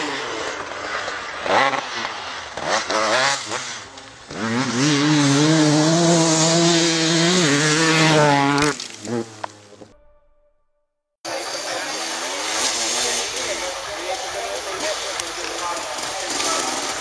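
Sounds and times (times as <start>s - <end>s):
dirt bike engine revving: 0.0s - 10.0s, 11.3s - 17.0s.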